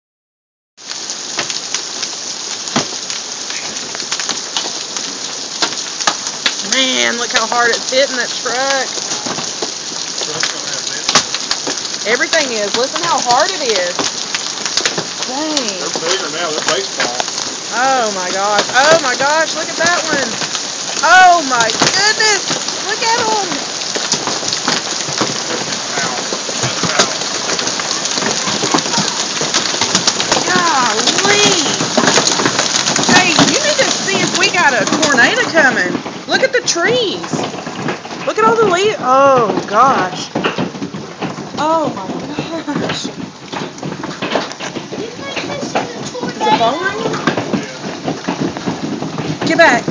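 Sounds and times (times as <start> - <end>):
hailstones clacking on hard surfaces: 0.8 - 49.9
heavy rain hissing: 0.8 - 49.9.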